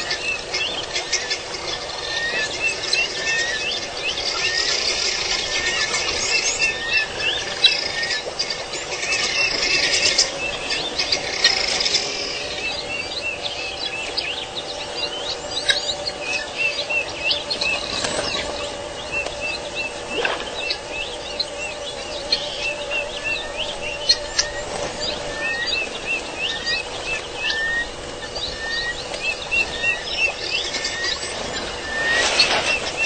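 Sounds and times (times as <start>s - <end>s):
faint steady hum: 0.0s - 33.0s
small birds chirping: 0.0s - 33.0s.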